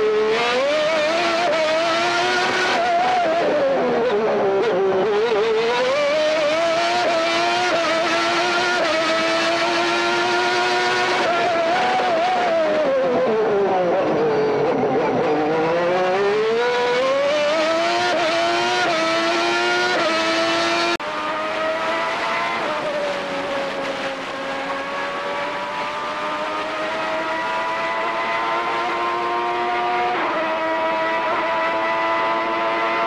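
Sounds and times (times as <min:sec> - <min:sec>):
second racing car engine: 0:00.0 - 0:33.0.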